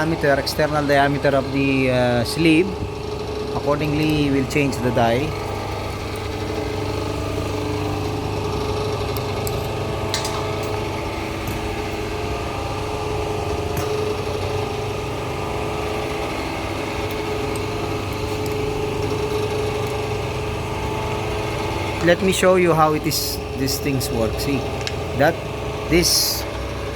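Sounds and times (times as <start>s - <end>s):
hydraulic pump humming: 0.0s - 26.9s.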